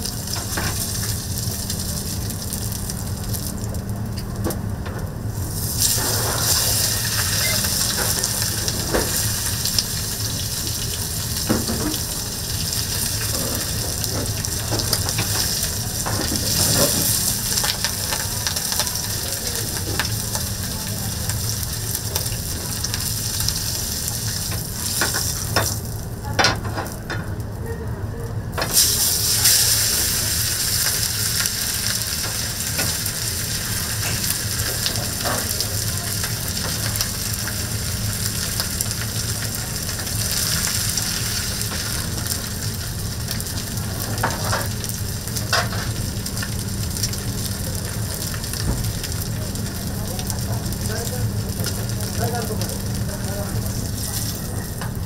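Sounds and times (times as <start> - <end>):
steak sizzling: 0.0 - 4.4, 5.3 - 26.1, 28.6 - 55.0.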